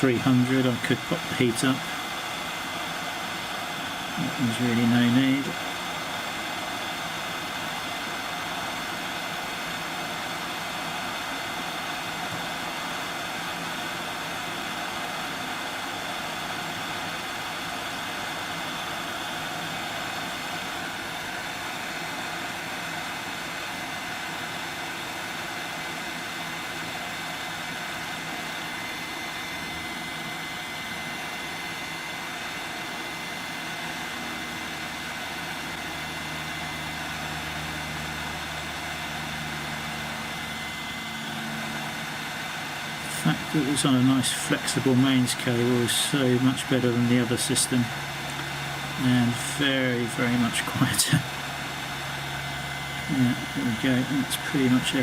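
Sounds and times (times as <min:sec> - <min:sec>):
hot air blower rushing: 0:00.0 - 0:55.0
thin steady whine: 0:00.0 - 0:55.0.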